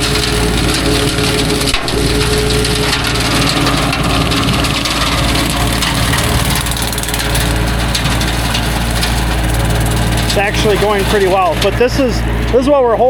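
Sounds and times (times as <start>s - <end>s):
brush cutter shredding brush: 0.0s - 13.0s
tractor engine running: 0.0s - 13.0s.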